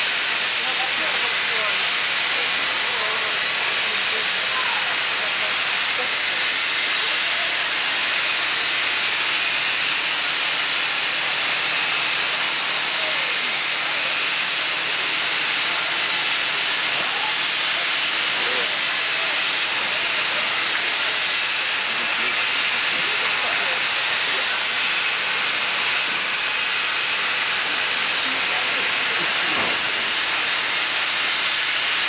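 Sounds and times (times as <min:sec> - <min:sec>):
steam venting hiss: 0:00.0 - 0:32.0.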